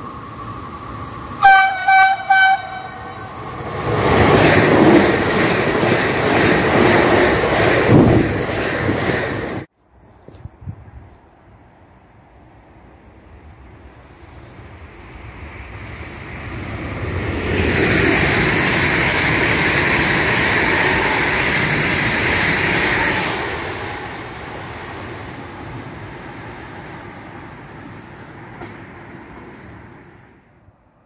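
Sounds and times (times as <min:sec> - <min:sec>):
train wheels on rails: 0:00.0 - 0:11.3, 0:13.3 - 0:30.4.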